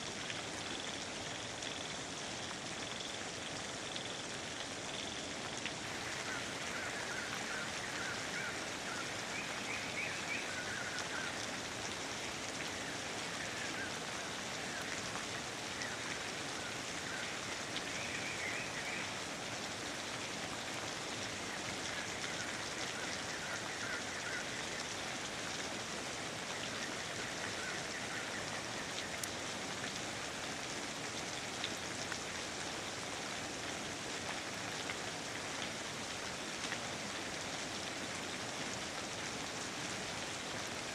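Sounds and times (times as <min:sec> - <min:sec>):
rain pattering on foliage: 0:00.0 - 0:40.9.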